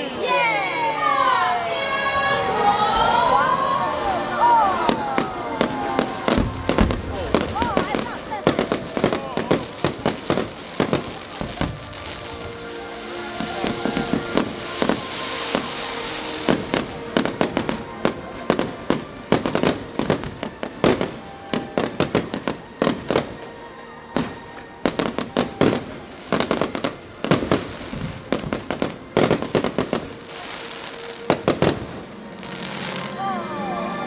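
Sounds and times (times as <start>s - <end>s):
fireworks crackling: 0.0s - 34.0s
fireworks bangs: 1.7s - 33.3s.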